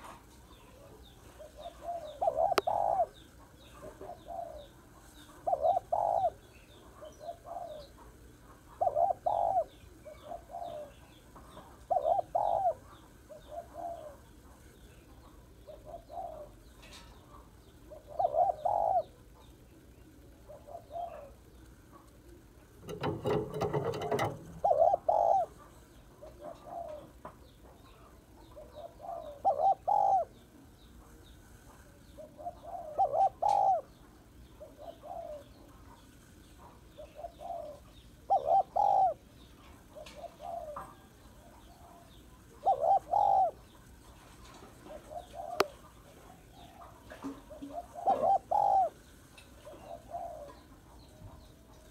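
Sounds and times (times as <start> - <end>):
dove cooing: 0.5 - 27.2, 27.8 - 31.2, 31.9 - 36.0, 36.6 - 43.8, 44.4 - 51.9.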